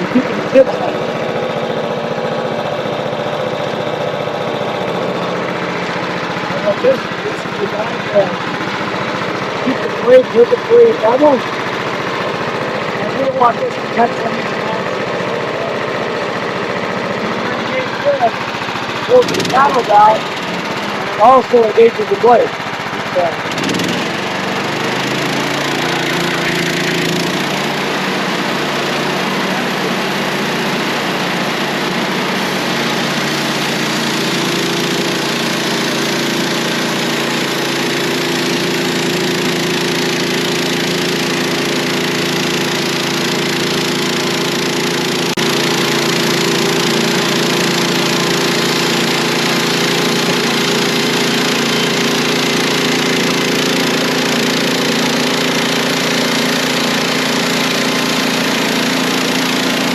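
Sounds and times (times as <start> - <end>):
band sawmill sawing a log: 0.0 - 59.9.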